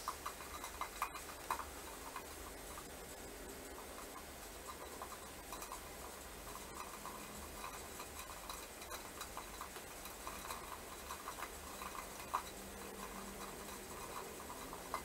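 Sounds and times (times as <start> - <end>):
faint low hum: 0.0 - 15.0
improvised music clicks and ticks: 0.0 - 15.0.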